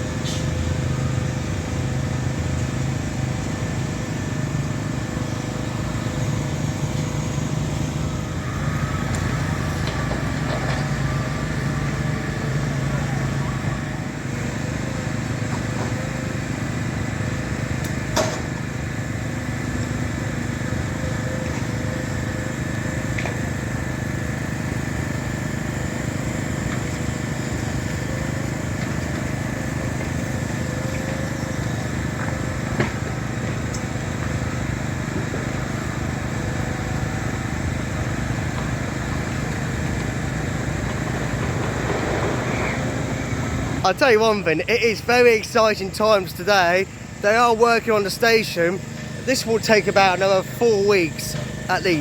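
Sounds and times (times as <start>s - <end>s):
motor engine humming: 0.0s - 52.0s.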